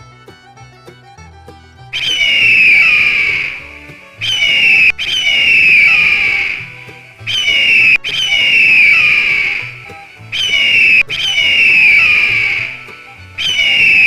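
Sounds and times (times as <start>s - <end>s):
eagle screaming: 2.0s - 14.0s.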